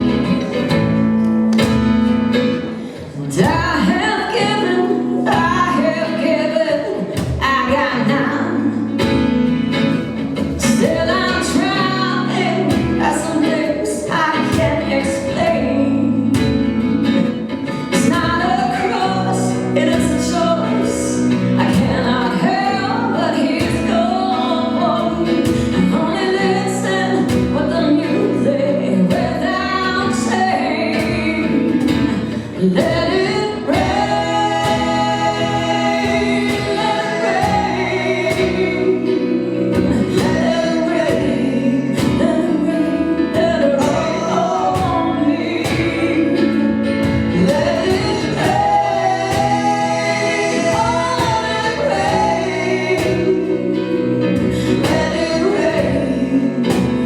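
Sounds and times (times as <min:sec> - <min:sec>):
instrumental accompaniment: 0:00.0 - 0:57.0
woman singing: 0:01.6 - 0:57.0.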